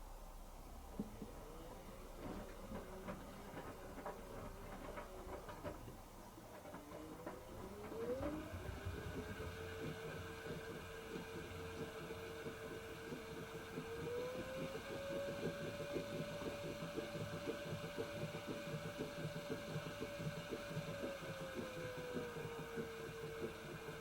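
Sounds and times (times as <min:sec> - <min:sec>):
washing machine motor whine: 0:00.9 - 0:24.0.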